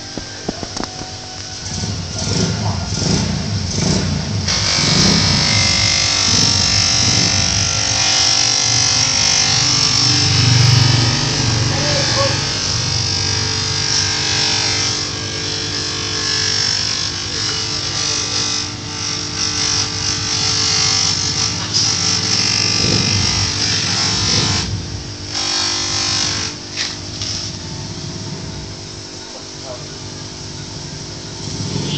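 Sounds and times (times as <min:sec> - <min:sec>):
bench grinder motor hum: 0:00.0 - 0:29.3.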